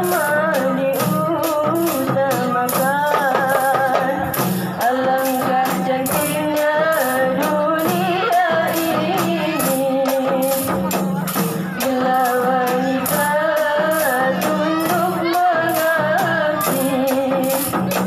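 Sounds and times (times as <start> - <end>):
women singing a melody: 0.0 - 11.0, 11.7 - 18.0
frame drums: 0.0 - 18.0.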